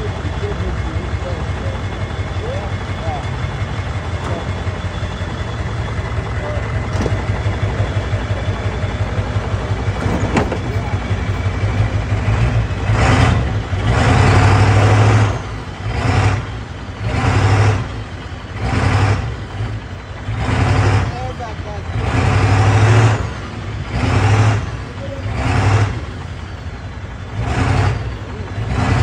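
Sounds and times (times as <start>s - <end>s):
diesel truck engine idling and revving: 0.0s - 29.0s.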